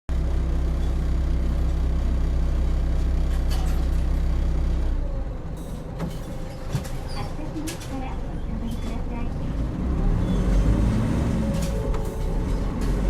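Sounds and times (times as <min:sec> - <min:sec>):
bus diesel engine idling: 0:00.1 - 0:13.0.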